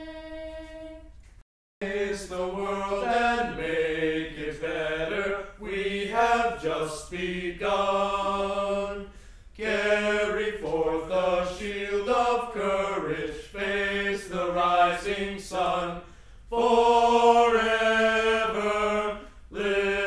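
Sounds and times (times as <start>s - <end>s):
group of voices singing slowly: 0.0s - 1.2s, 1.8s - 20.0s.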